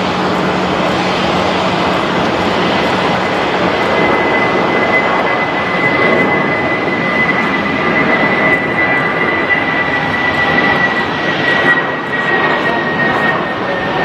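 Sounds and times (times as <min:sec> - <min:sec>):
jet engines roaring and whining: 0:00.0 - 0:14.0.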